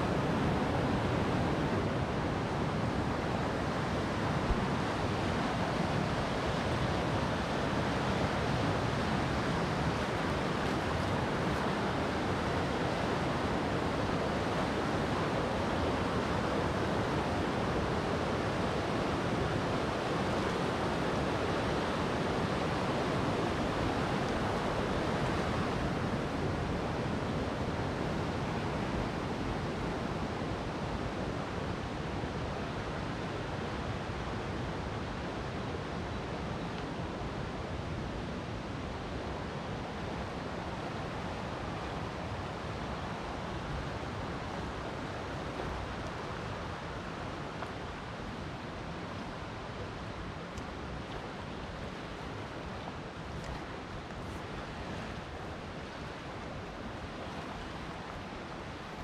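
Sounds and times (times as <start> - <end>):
river rapids rushing: 0.0 - 59.0.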